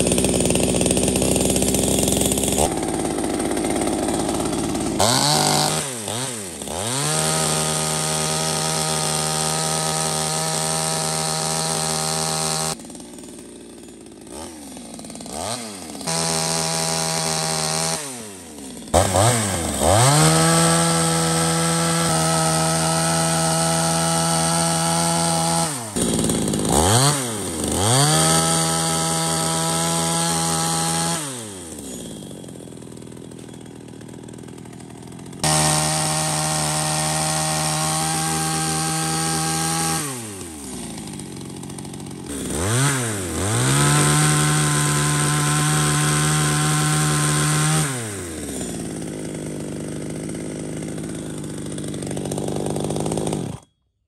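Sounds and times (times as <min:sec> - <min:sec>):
chainsaw revving and cutting wood: 0:00.0 - 0:54.0.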